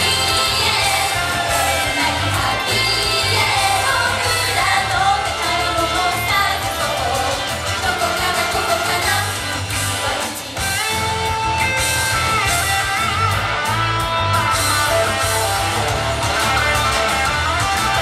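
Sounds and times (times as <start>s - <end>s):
electric guitar: 0.0s - 18.0s
live pop-rock song: 0.0s - 18.0s.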